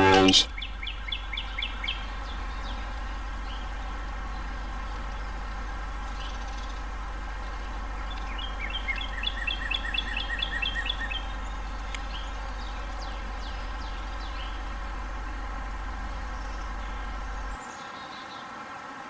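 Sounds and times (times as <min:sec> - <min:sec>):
downward-sliding bird calls: 0:00.0 - 0:17.6
songbird singing repeated notes: 0:00.0 - 0:17.6.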